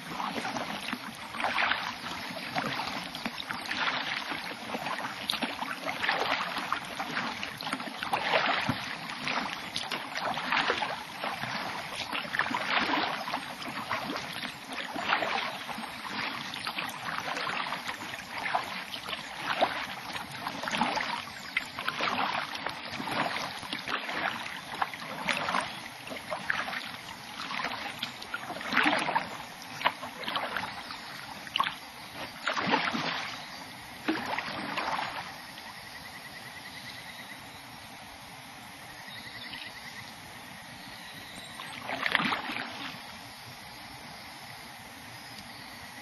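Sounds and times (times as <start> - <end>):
paddle splashing in water: 0.0 - 35.8, 41.2 - 43.3.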